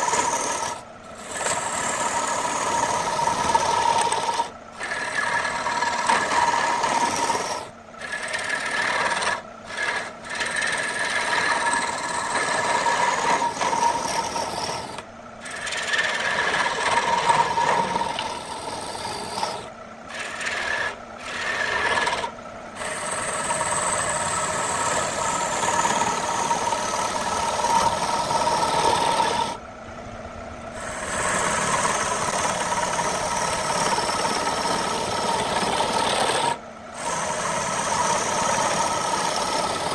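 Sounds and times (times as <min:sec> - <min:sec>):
lathe tool scraping wood: 0:00.0 - 0:29.6, 0:30.7 - 0:39.9.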